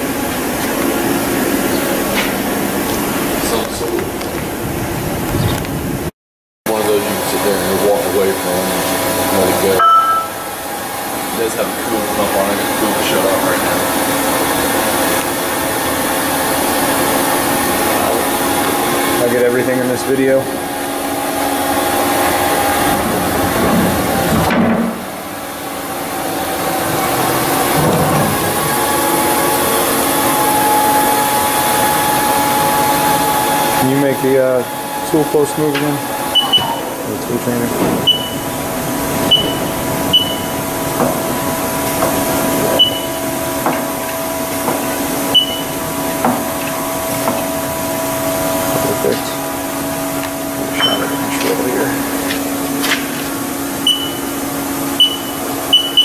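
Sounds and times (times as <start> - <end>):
machinery humming and hissing: 0.0 - 6.1, 6.7 - 56.0.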